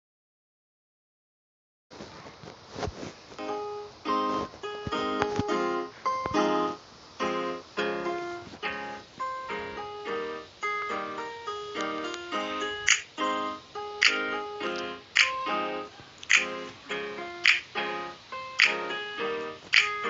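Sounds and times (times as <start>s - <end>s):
piano-like keyboard chords: 3.4s - 20.0s.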